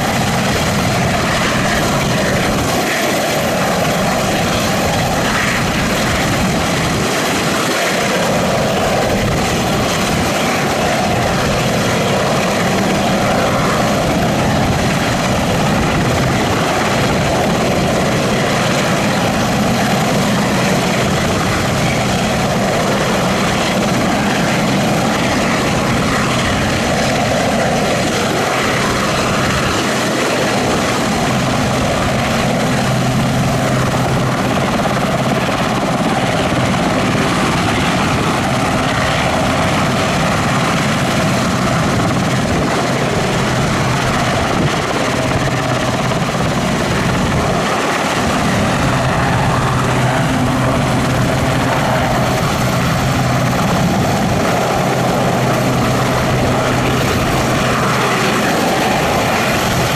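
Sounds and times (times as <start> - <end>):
helicopter rotors and engines: 0.0 - 59.9
turbine whine: 0.0 - 59.9.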